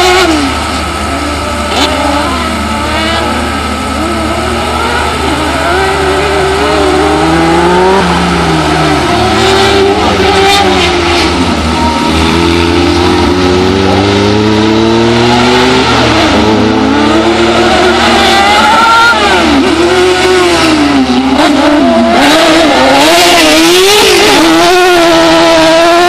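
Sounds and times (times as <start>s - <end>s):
racing buggy engines revving: 0.0s - 26.0s.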